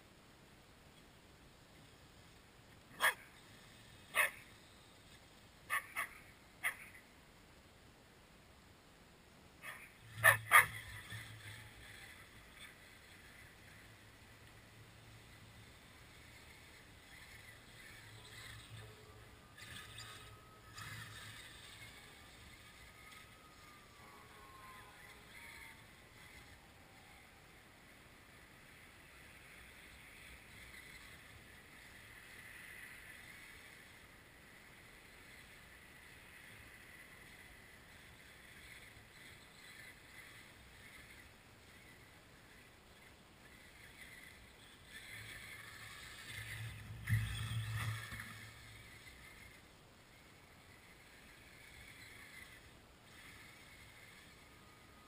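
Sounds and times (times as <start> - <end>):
low steady hiss: 0.0 - 55.0
rumble and rustle: 0.0 - 55.0
electric motor whine: 9.9 - 55.0.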